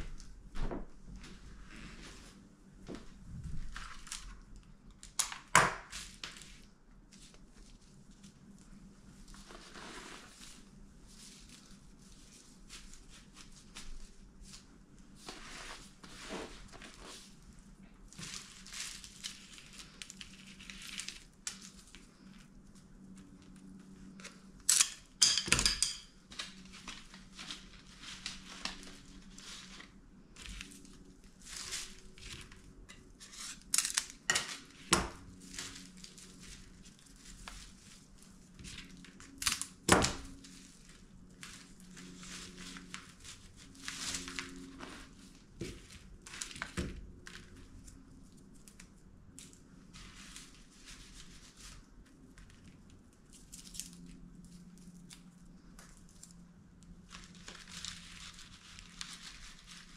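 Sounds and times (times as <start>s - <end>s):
crinkling and rustling: 0.0s - 25.2s, 25.8s - 59.9s.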